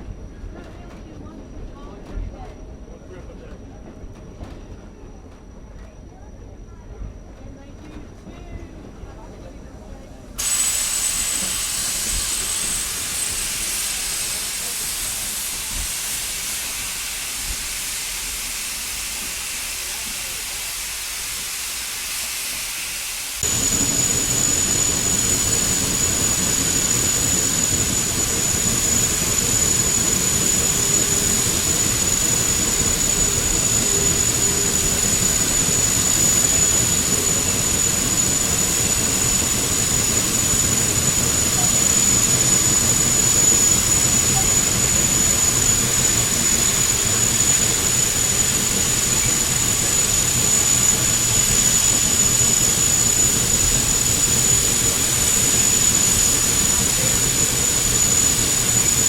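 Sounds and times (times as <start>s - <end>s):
steam locomotive hissing: 10.4s - 59.0s.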